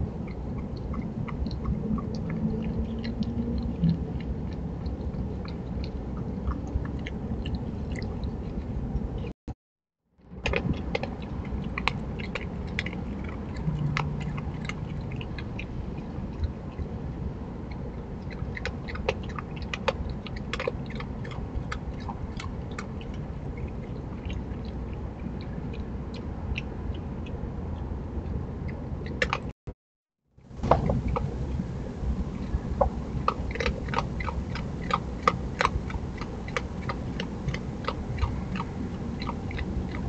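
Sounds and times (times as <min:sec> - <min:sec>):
animal chewing dry pet food: 0:00.0 - 0:08.8, 0:10.4 - 0:27.1, 0:32.4 - 0:40.0.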